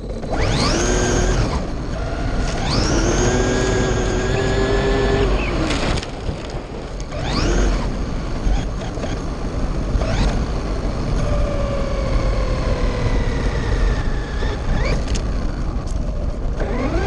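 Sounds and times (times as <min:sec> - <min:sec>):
rc car electric motor whining: 0:00.0 - 0:05.7, 0:07.0 - 0:09.2, 0:10.0 - 0:10.4, 0:11.1 - 0:17.0
steady low rumble: 0:00.0 - 0:17.0.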